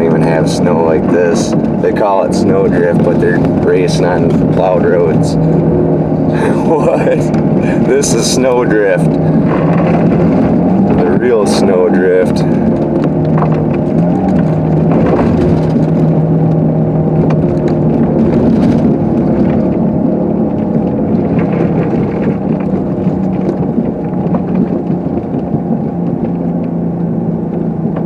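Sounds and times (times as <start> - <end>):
car engine running under load: 0.0 - 28.0.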